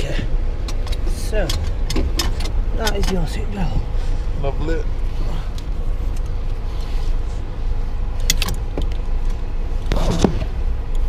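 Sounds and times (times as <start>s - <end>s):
car idling inside cabin: 0.0s - 11.0s.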